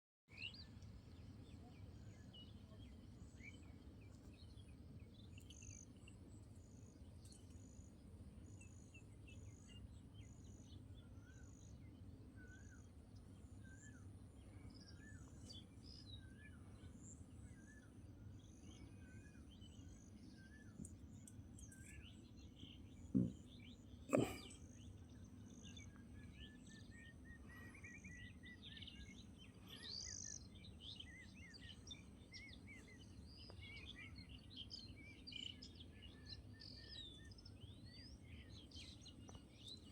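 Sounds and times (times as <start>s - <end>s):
small birds chirping: 0.3s - 39.9s.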